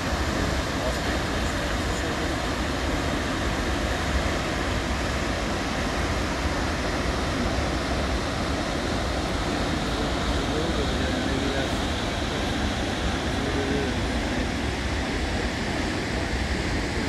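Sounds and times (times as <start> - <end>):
rush of falling water: 0.0 - 17.0.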